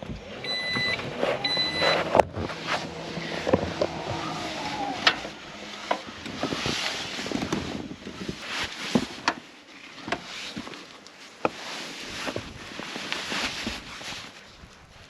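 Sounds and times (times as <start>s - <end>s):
clothing rustling: 0.5s - 15.0s.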